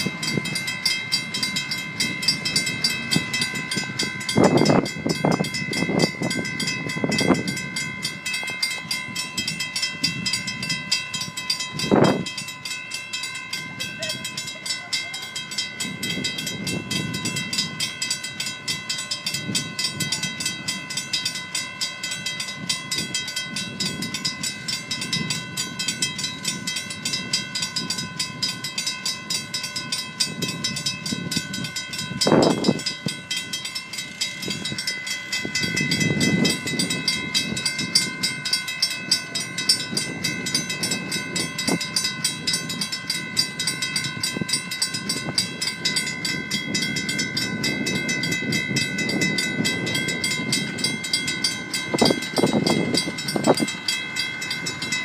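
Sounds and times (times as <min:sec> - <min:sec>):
low rumble from rail line: 0:00.0 - 0:55.0
railroad crossing bells ringing: 0:00.0 - 0:55.0.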